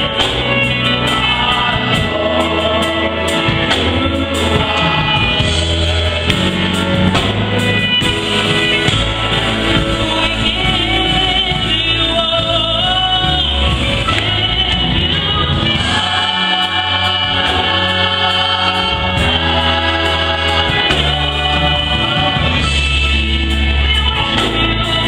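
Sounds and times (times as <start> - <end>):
percussion hits: 0.0 - 11.0, 13.7 - 25.0
bass line: 0.0 - 25.0
gospel choir singing: 0.0 - 25.0.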